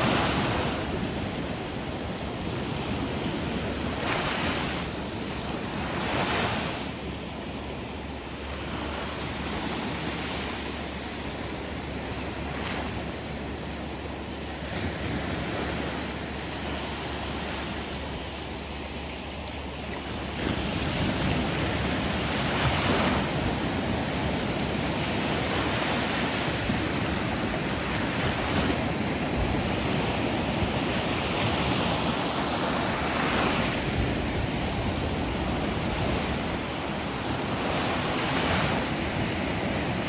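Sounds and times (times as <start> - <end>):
sea waves washing onto shore: 0.0 - 40.0.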